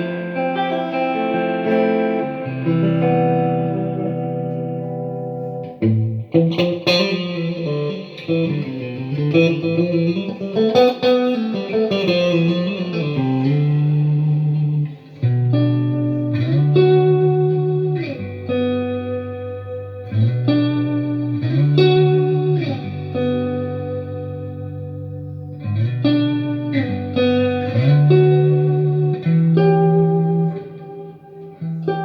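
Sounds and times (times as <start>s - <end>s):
electric guitar through an amp: 0.0s - 32.0s.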